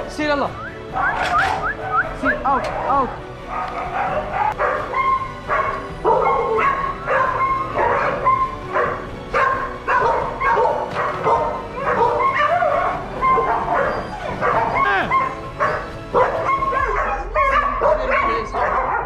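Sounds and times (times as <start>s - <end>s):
many dogs barking: 0.9s - 19.0s.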